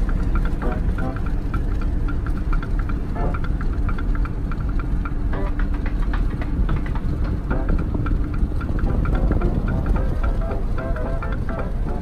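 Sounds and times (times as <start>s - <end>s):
truck cab road rumble: 0.0s - 12.0s.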